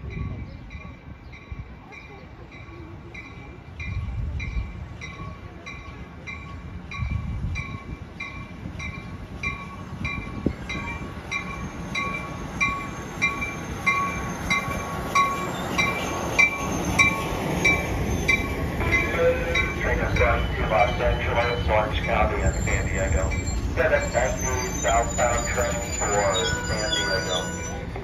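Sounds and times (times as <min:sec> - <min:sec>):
crossing warning bell ringing: 0:00.0 - 0:28.0
train rumbling: 0:00.0 - 0:28.0.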